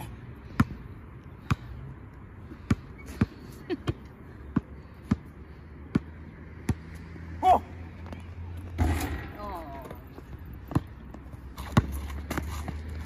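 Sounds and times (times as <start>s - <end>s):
basketball bouncing on asphalt: 0.3s - 7.2s, 7.9s - 13.0s.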